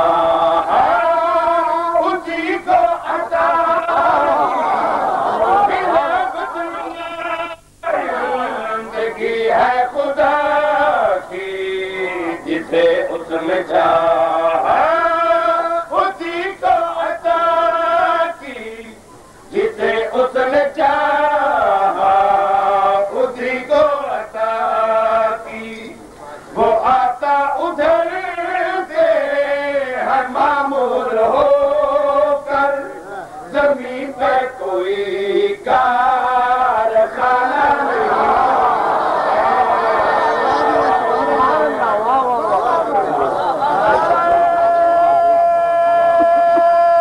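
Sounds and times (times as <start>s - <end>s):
man singing melodic chant: 0.0s - 4.7s, 5.3s - 38.9s, 39.6s - 47.0s.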